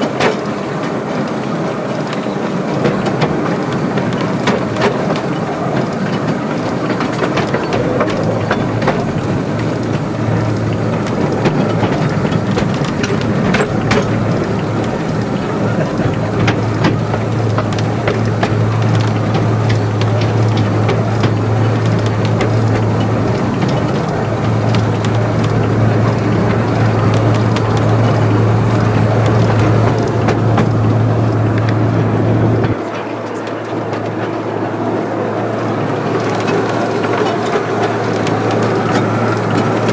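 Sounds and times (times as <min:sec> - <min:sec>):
clicks over rail joints: 0:00.0 - 0:34.5
train wheels rumbling on track: 0:00.0 - 0:39.9.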